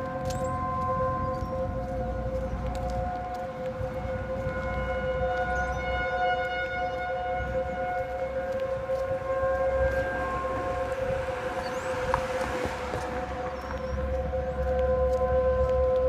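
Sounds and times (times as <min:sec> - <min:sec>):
tornado warning sirens steady tones: 0:00.0 - 0:16.0.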